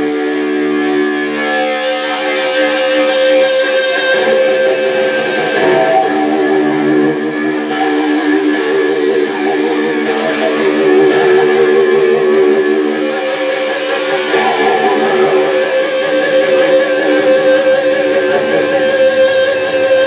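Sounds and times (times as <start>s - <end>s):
distorted electric guitar: 0.0s - 20.0s
live rock band playing: 0.1s - 20.0s.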